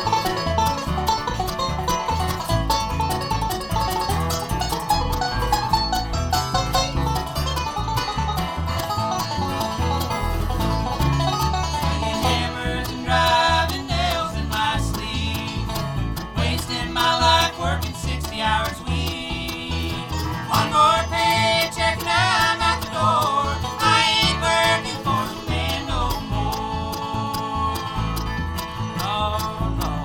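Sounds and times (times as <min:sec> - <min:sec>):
fast picked string instruments: 0:00.0 - 0:30.0
pulsing bass line: 0:00.0 - 0:30.0.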